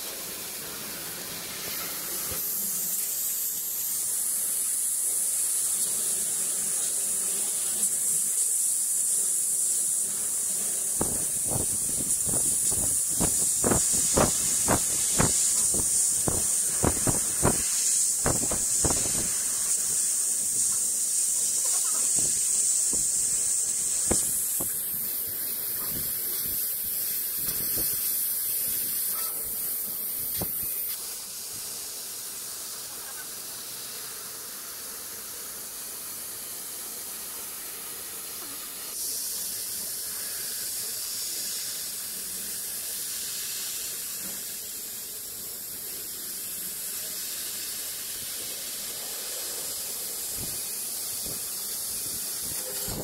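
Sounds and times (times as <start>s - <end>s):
air jet hissing: 0.0s - 32.8s, 34.7s - 53.0s.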